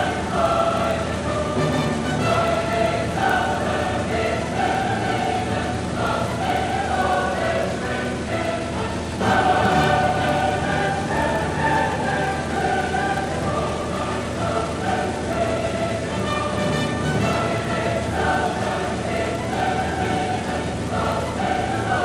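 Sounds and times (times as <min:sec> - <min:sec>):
choir singing held notes: 0:00.0 - 0:22.0.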